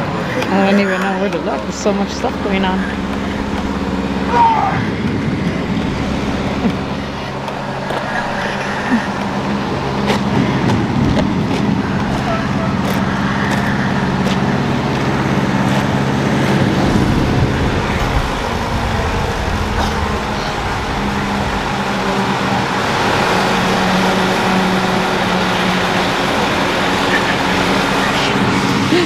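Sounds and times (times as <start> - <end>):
rumble and rattle of wagon: 0.0 - 29.0
vehicle engine running at low speed: 0.0 - 29.0.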